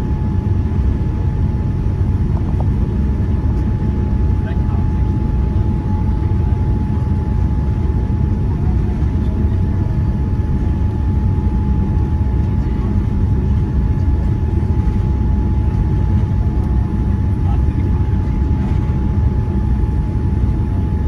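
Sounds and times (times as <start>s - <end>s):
engine and airflow rumble: 0.0s - 21.0s.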